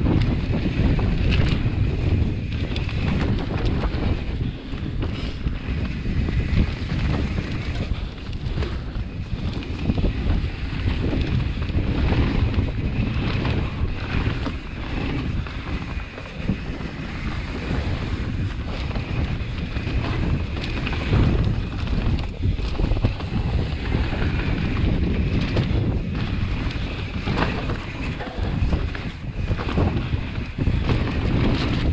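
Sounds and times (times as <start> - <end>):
bike knocks and rattles: 0.0 - 31.9
bike tyre noise on dirt: 0.0 - 31.9
wind rushing over microphone: 0.0 - 31.9.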